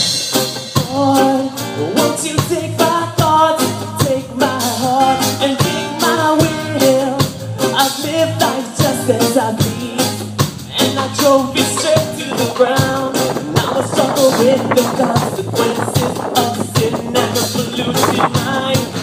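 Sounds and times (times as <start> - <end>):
acoustic guitars strumming: 0.0 - 19.0
drum kit: 0.0 - 19.0
man singing: 0.0 - 19.0.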